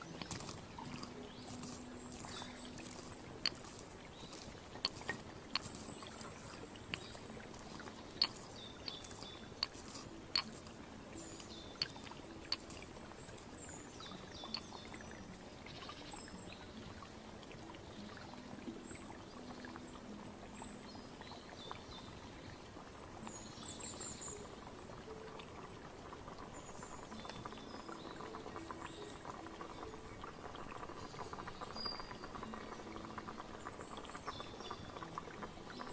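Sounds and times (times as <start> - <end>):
water pouring and trickling: 0.0 - 35.9.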